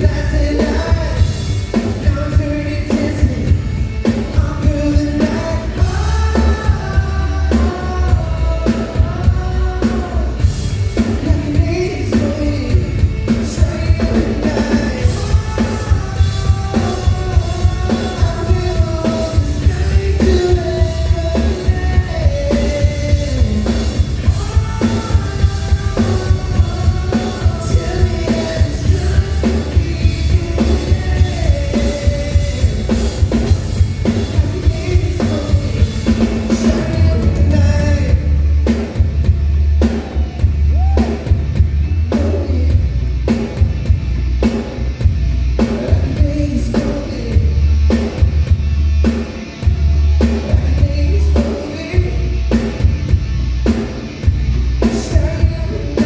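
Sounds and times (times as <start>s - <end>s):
lead vocal singing: 0.0s - 43.7s, 45.6s - 48.3s, 49.5s - 53.2s, 54.8s - 56.0s
drum kit beat: 0.0s - 56.0s
heavy bass: 0.0s - 56.0s.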